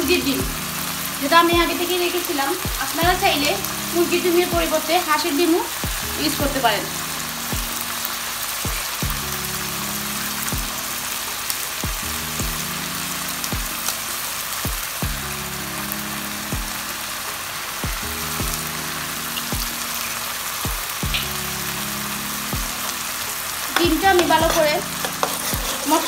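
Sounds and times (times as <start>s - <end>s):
background music with slow beat: 0.0s - 26.0s
food sizzling in a frying pan: 0.0s - 26.0s.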